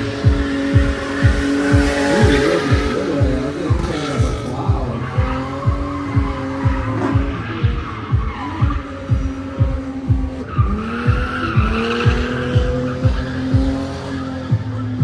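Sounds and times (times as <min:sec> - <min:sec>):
car engine revving: 0:00.0 - 0:15.0
music with heavy beat: 0:00.0 - 0:15.0
tyres screeching: 0:00.0 - 0:15.0.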